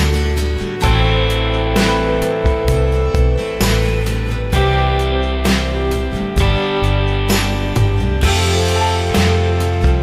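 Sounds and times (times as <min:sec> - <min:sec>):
bass line: 0:00.0 - 0:10.0
guitar: 0:00.0 - 0:10.0.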